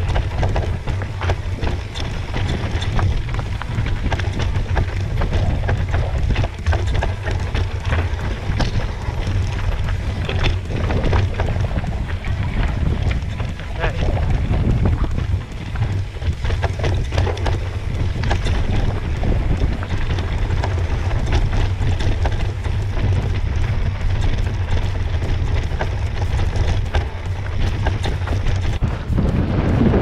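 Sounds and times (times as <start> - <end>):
tyres rattling over loose stones: 0.0 - 30.0
wind buffeting microphone: 0.0 - 30.0.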